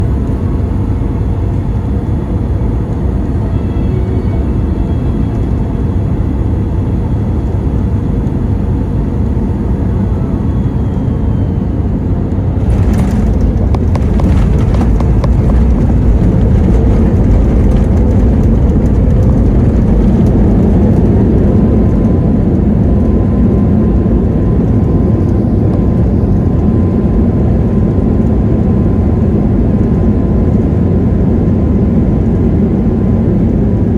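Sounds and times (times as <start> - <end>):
jet engines low rumble: 0.0 - 33.9.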